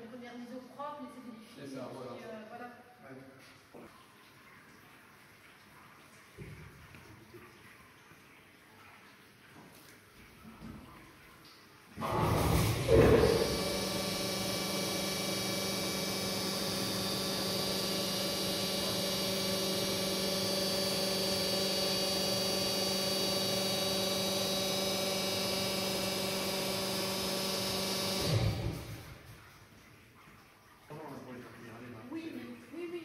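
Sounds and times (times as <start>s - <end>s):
pump motor hum with whine: 3.7s - 32.9s.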